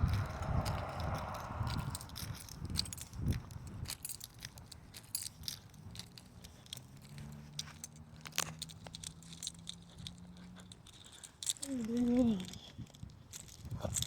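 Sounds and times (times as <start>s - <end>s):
handling clicks and rustles: 0.0s - 14.0s.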